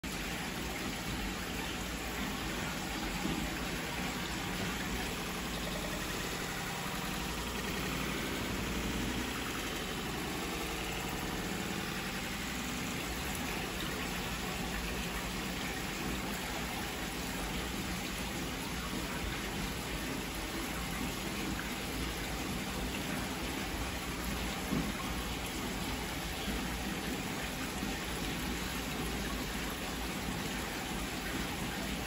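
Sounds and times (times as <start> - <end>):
running water hissing: 0.1 - 32.0.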